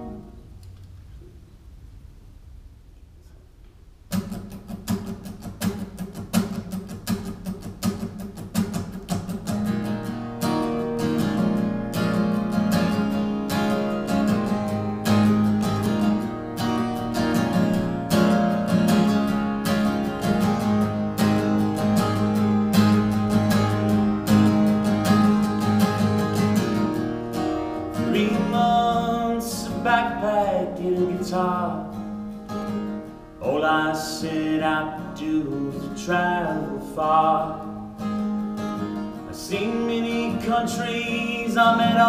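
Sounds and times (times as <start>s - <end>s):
acoustic guitar playing: 0.0s - 0.7s, 4.0s - 42.0s.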